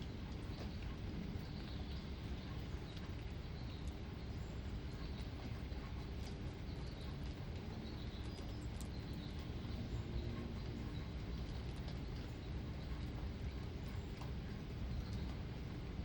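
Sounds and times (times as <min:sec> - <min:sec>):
low rumble and hiss: 0:00.0 - 0:16.0
light ticks: 0:00.2 - 0:15.8.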